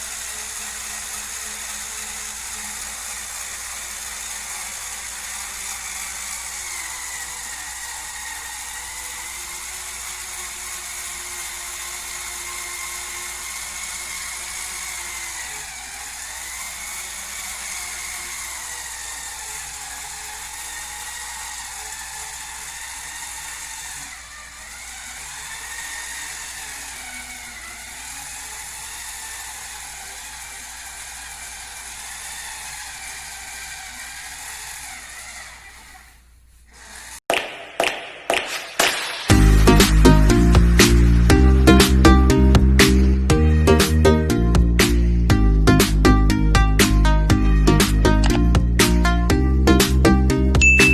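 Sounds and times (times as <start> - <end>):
electric scrubber motor whirring: 0.0 - 37.2, 39.3 - 44.0.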